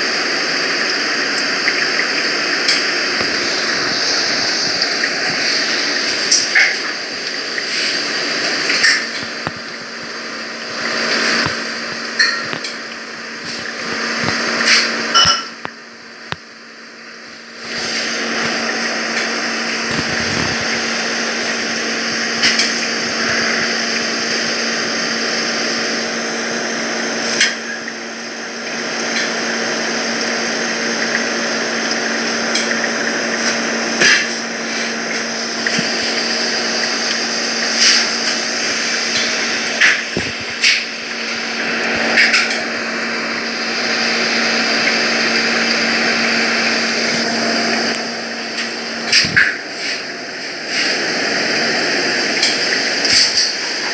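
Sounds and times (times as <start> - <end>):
machine hum and hiss: 0.0 - 53.9.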